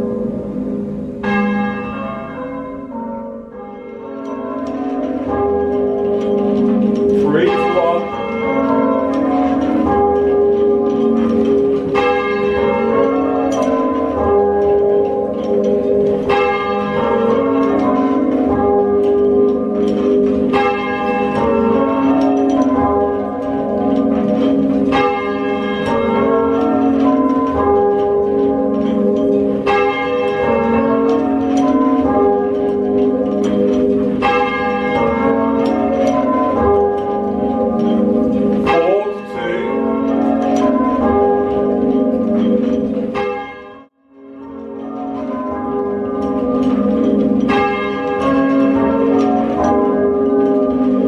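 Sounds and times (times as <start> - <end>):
muffled church bells ringing: 0.0 - 51.0.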